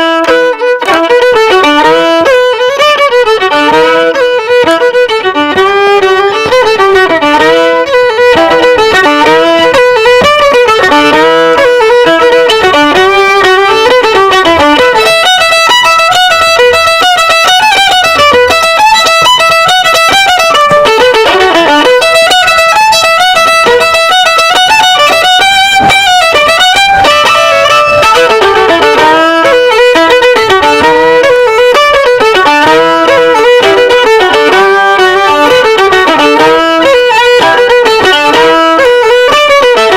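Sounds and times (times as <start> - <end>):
violin melody: 0.0 - 39.9.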